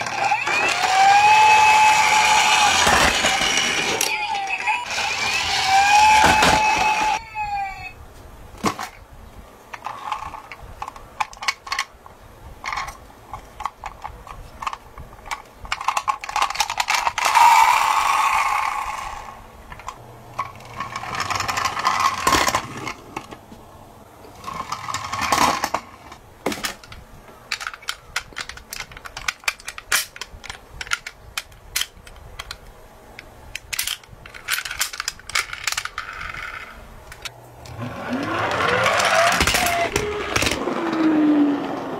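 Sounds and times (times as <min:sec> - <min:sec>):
toy wheels rattling on wooden ramp: 0:00.0 - 0:07.2, 0:09.7 - 0:11.9, 0:12.6 - 0:23.4, 0:24.3 - 0:32.6, 0:33.6 - 0:41.9
toy cars clicking and clattering: 0:00.0 - 0:07.3, 0:09.7 - 0:12.0, 0:12.6 - 0:23.4, 0:24.2 - 0:41.8.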